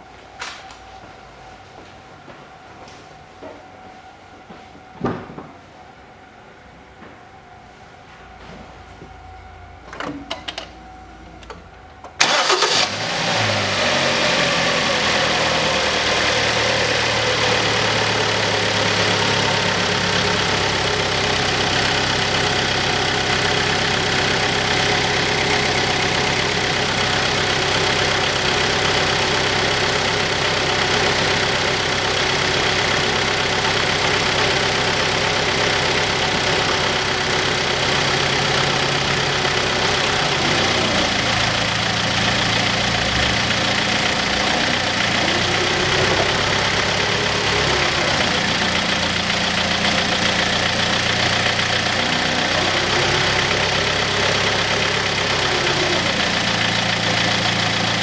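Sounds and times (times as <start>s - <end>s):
car engine starting and idling: 9.6s - 58.0s.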